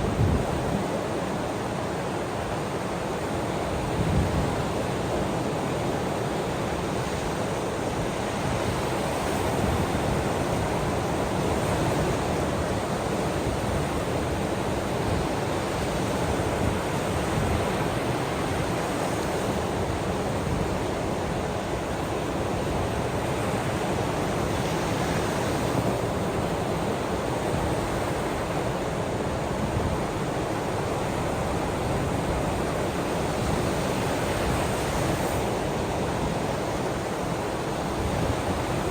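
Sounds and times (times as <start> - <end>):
ocean waves on shore: 0.0 - 38.9.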